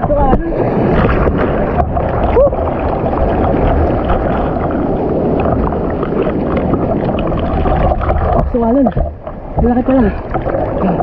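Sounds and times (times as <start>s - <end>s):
waves splashing: 0.0s - 11.0s.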